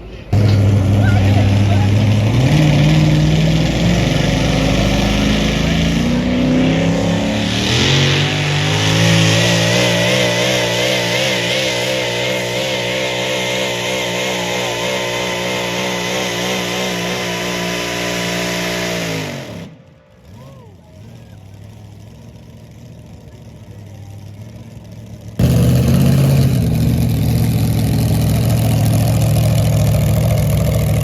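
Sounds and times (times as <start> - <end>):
engine revving hard under load: 0.3 - 20.4, 25.4 - 31.0.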